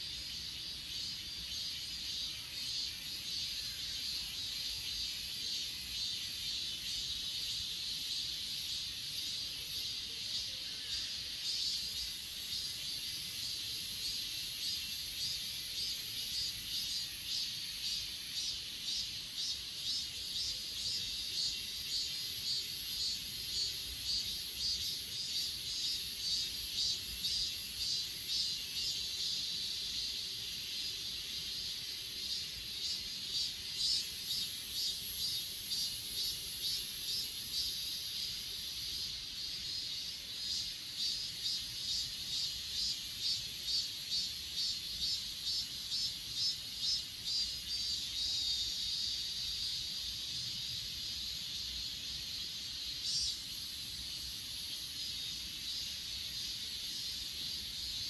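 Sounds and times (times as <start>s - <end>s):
insects stridulating: 0.0s - 58.0s.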